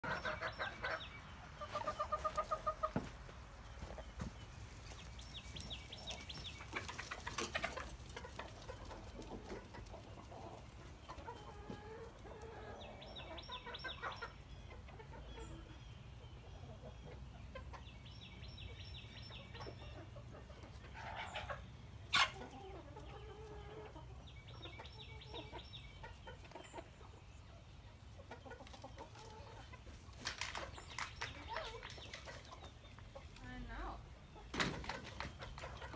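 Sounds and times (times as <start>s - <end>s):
chickens clucking: 0.0s - 35.9s.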